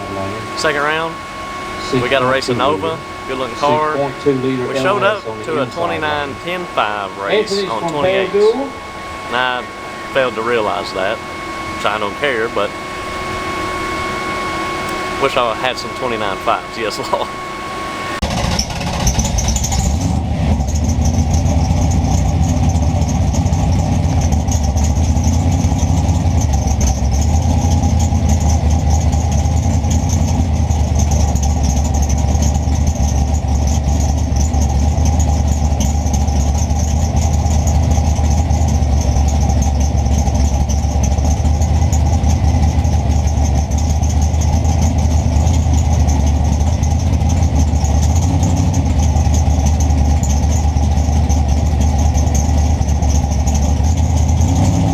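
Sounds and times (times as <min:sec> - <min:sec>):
race engine idling: 0:00.0 - 0:54.9.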